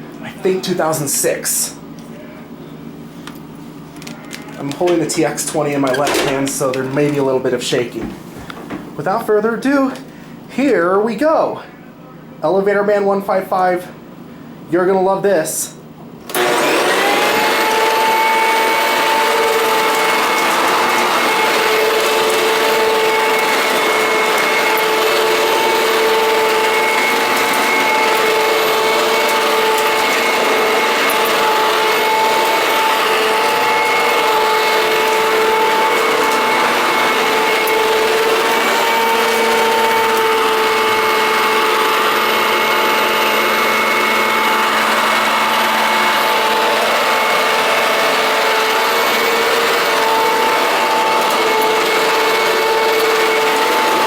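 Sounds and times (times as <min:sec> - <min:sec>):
vacuum cleaner running: 0:04.0 - 0:10.4, 0:16.2 - 0:54.0.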